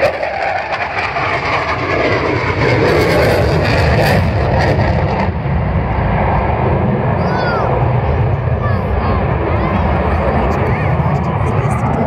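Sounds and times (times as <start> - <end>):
fighter jet flying past: 0.0 - 12.0.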